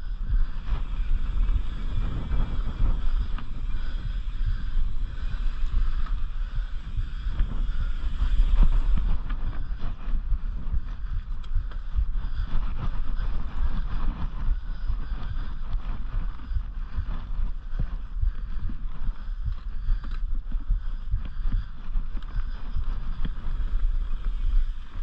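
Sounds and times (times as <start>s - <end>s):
wind buffeting microphone: 0.0s - 25.0s
tyres rolling on dirt trail: 0.1s - 25.0s.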